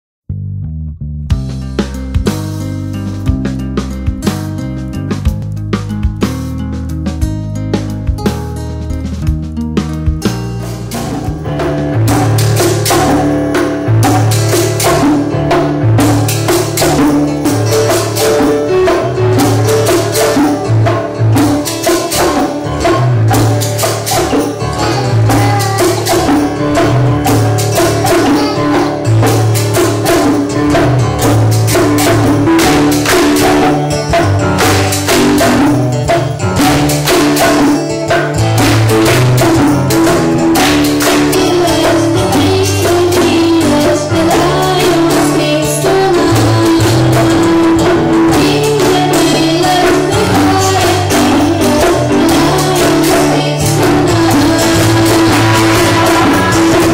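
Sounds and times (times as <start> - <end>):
keyboard: 1.3 - 56.9
strummed acoustic guitar: 1.3 - 56.9
bongos and hand percussion: 1.4 - 56.9.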